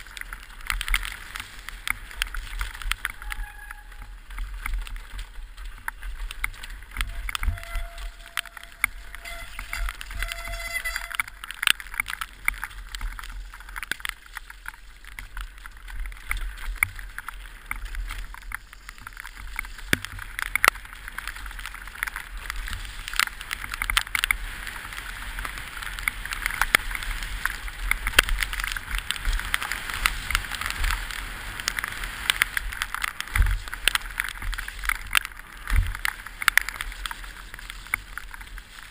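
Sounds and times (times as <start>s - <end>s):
mountain bike rattling: 0.0s - 38.9s
tyre and wind noise: 0.0s - 38.9s.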